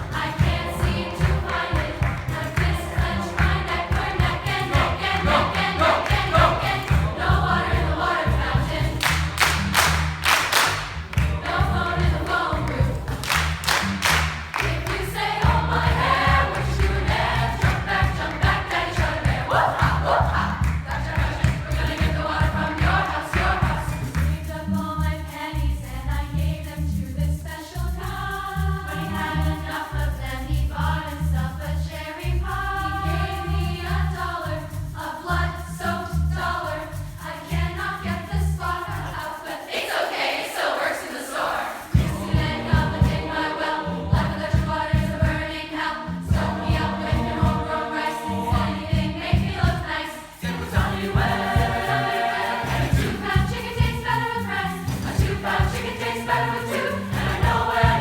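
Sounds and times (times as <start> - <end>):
youth choir singing: 0.0 - 25.4, 32.3 - 58.0
rhythmic low accompaniment: 0.0 - 39.5, 41.8 - 58.0.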